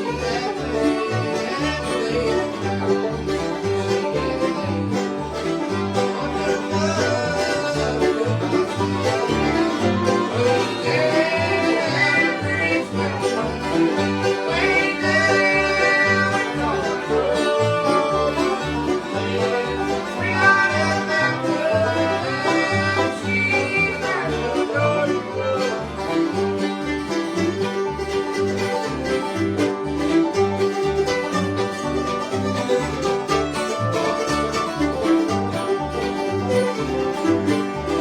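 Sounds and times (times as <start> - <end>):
banjo: 0.0 - 38.0
bass: 0.0 - 38.0
fiddle melody: 0.0 - 38.0
guitar: 0.0 - 38.0.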